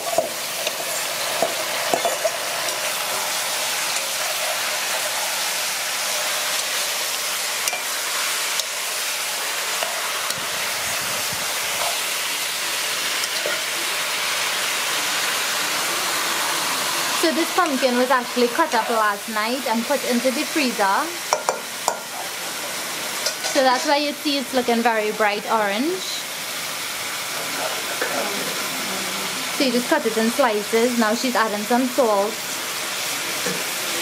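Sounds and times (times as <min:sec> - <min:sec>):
pumpkin sizzling in hot oil: 0:00.0 - 0:34.0.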